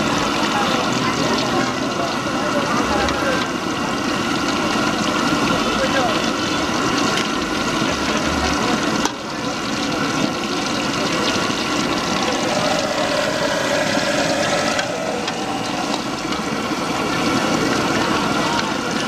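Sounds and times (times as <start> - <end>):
food sizzling in hot oil: 0.0 - 19.0
street noise hum: 0.0 - 19.0.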